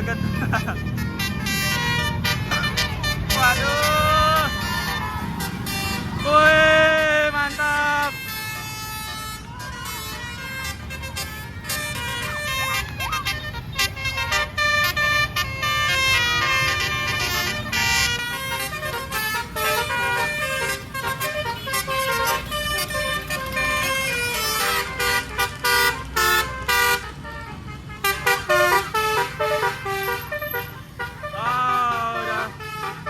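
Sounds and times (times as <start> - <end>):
musical vehicle horn melody: 0.0 - 33.0.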